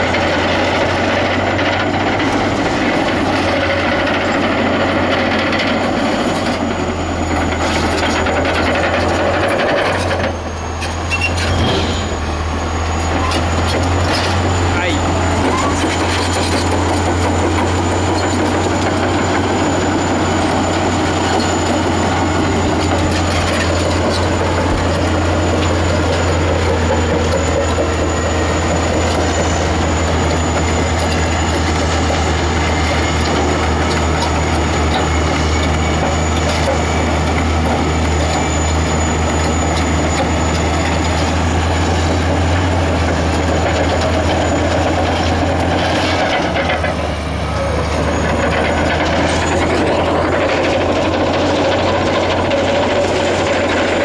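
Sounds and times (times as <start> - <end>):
heavy diesel drone: 0.0 - 54.0
steel tracks clattering: 0.0 - 54.0.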